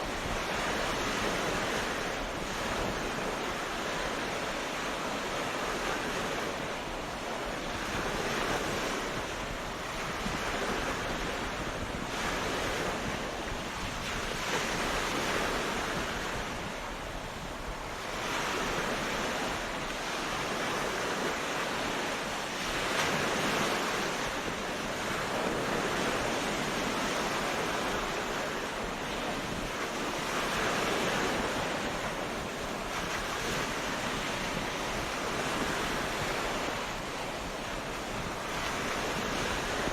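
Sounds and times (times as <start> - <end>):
sea waves on a beach: 0.0 - 39.9.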